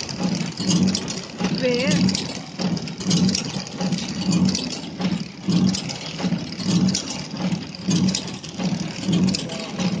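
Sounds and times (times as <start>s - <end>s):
packaging machine hum: 0.0s - 10.0s.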